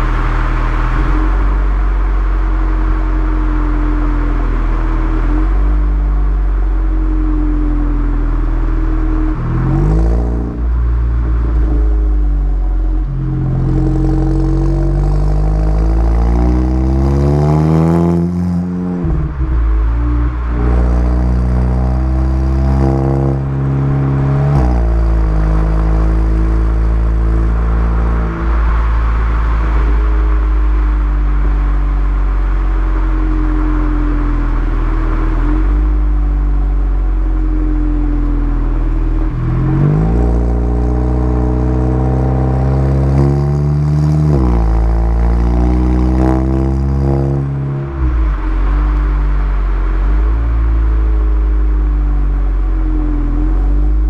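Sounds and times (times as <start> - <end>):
car exhaust revving: 0.0 - 54.0.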